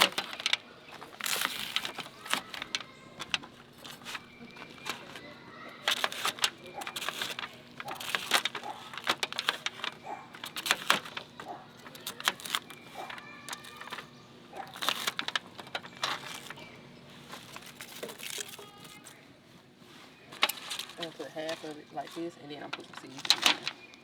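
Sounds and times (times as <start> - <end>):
utensils and packaging clicking: 0.0 - 19.2, 20.2 - 24.0.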